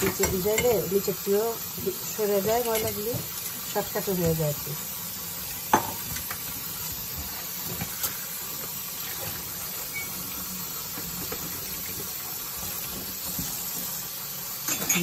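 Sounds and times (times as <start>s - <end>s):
tap water running into steel sink: 0.0s - 15.0s.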